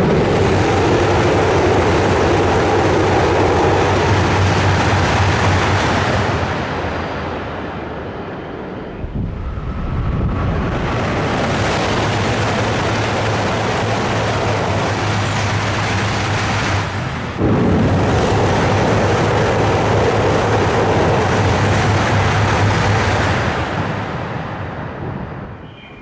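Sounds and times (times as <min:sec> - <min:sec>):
high-speed train rushing roar: 0:00.0 - 0:26.0.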